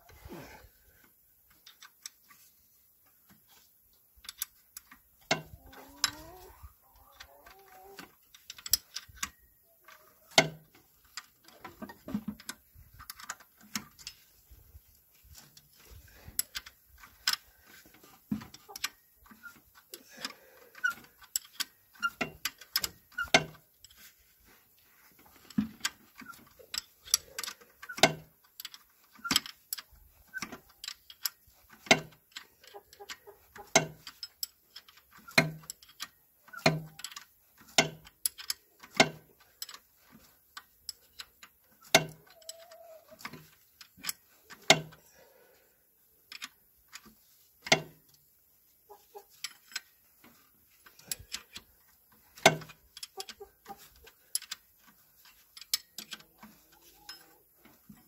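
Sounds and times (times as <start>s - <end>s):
metallic clicks of hand tools: 1.0s - 2.3s, 4.2s - 14.3s, 15.4s - 24.1s, 25.2s - 45.2s, 46.2s - 48.2s, 49.2s - 58.0s.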